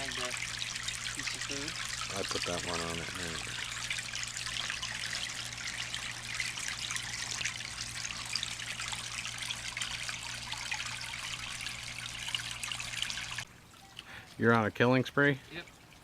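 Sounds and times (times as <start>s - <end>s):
low steady hum: 0.0s - 16.0s
water trickling in pond: 0.0s - 16.0s.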